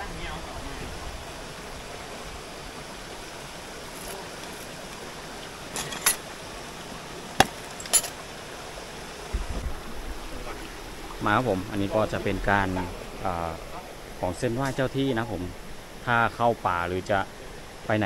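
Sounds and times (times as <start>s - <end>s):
waterfall and stream rushing: 0.0s - 18.0s.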